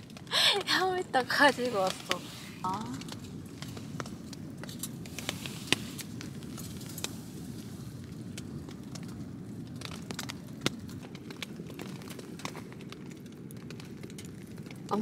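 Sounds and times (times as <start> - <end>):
low rush of fire: 0.0 - 15.0
wood fire crackling in stove: 0.0 - 15.0.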